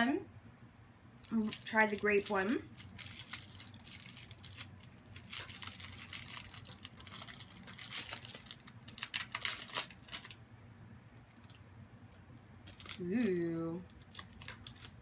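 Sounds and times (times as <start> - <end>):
wrapper crinkling and rustling: 1.2 - 10.4, 11.2 - 15.0.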